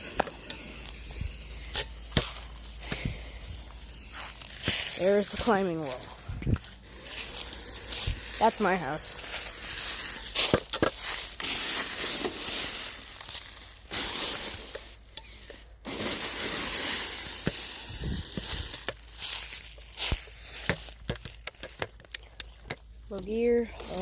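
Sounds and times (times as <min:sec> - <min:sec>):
wheels crunching dirt and gravel: 0:00.0 - 0:24.0.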